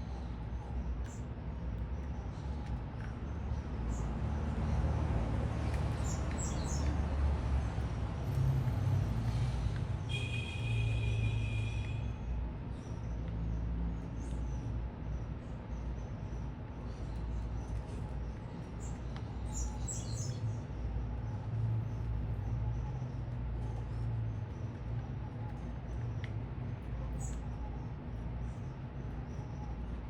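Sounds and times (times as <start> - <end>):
low city rumble: 0.0 - 30.0.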